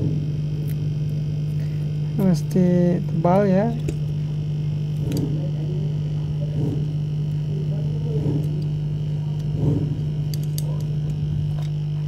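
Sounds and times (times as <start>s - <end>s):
hot-air blower humming and whining: 0.0s - 12.0s.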